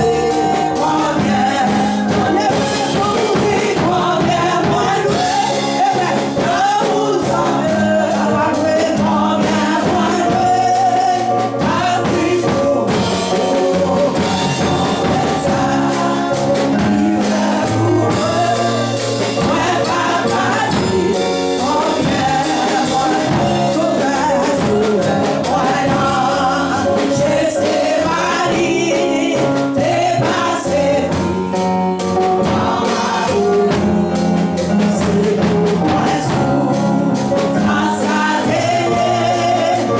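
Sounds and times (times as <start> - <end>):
choir singing gospel: 0.0 - 39.9
live band with bass and beat: 0.0 - 39.9.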